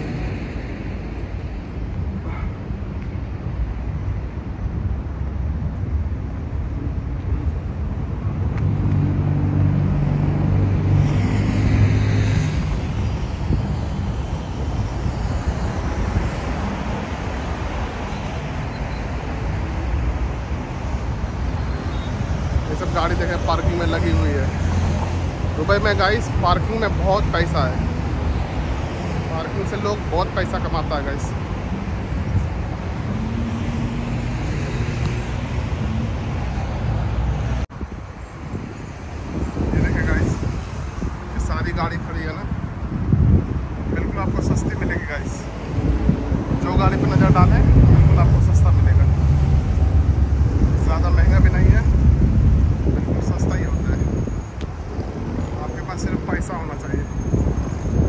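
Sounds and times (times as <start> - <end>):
cars passing on road: 0.0 - 58.0.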